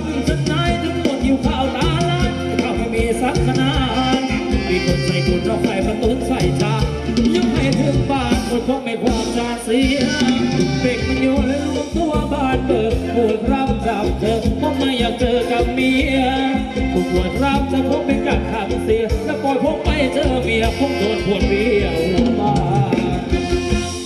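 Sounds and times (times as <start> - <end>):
live band playing dance music: 0.0 - 24.0
steady drum beat: 0.0 - 24.0.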